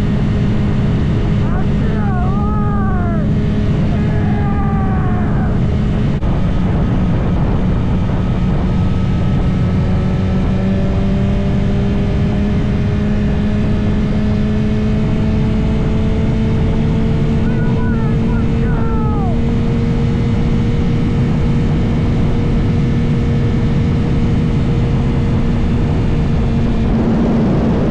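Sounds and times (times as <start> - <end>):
motorcycle engine cruising: 0.0 - 27.9
wind noise: 0.0 - 27.9.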